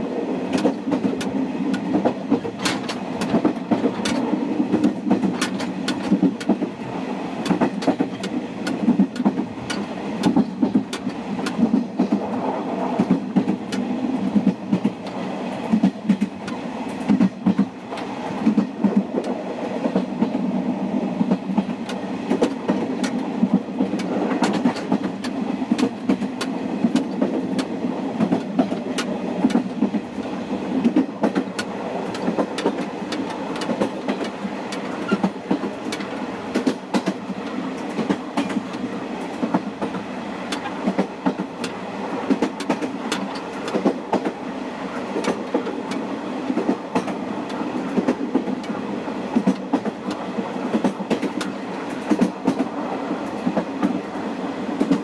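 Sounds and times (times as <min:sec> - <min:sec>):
rail-joint clacks: 0:00.4 - 0:06.8, 0:07.4 - 0:20.5, 0:21.2 - 0:55.0.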